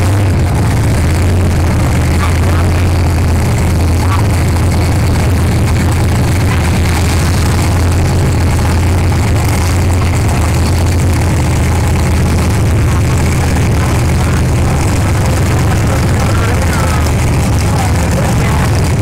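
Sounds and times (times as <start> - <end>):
heavy engines idling: 0.0 - 19.0.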